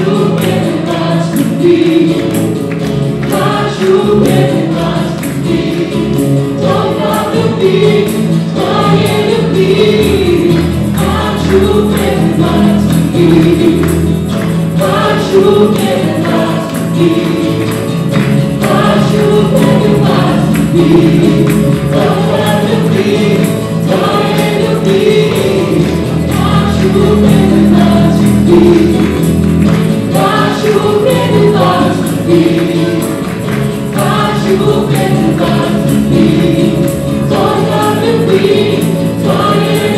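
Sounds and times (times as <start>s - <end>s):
acoustic guitar: 0.0s - 39.9s
electric bass: 0.0s - 39.9s
group singing worship song: 0.0s - 39.9s
keyboard: 0.0s - 39.9s
tambourine shaken: 0.0s - 39.9s.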